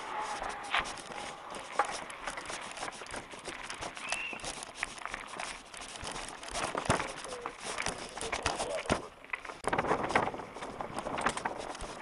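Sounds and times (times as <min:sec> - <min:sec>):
mountain bike rattling over dirt: 0:00.0 - 0:12.0.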